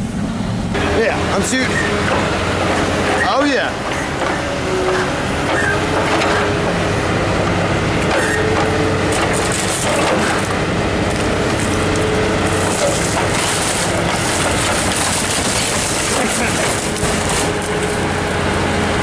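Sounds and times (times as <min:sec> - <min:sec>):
heavy machinery running: 0:00.0 - 0:19.0
metal crunching and crackling: 0:01.8 - 0:18.6.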